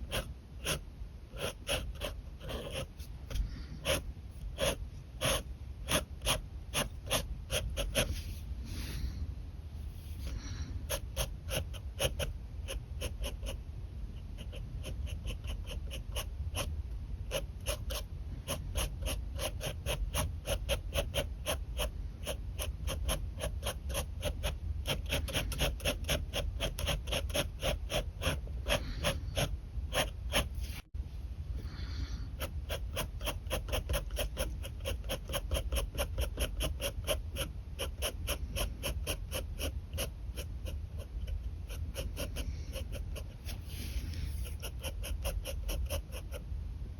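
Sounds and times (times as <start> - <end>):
pen scratching on paper: 0.0 - 8.4, 10.0 - 13.6, 14.2 - 30.9, 32.3 - 46.4.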